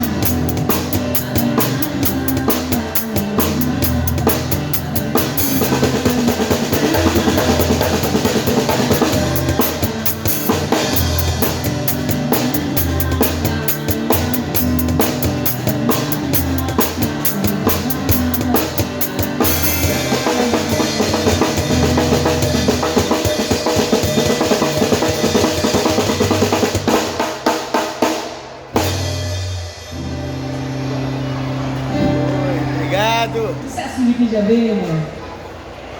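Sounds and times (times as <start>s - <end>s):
drum kit beat: 0.0s - 30.6s, 32.1s - 33.6s
acoustic pop band: 0.0s - 35.2s.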